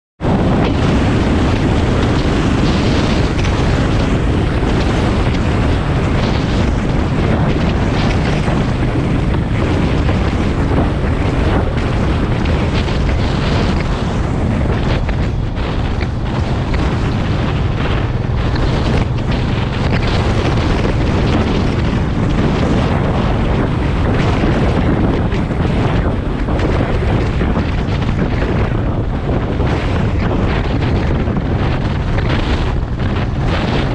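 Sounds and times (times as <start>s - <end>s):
wind buffeting microphone: 0.2s - 33.9s.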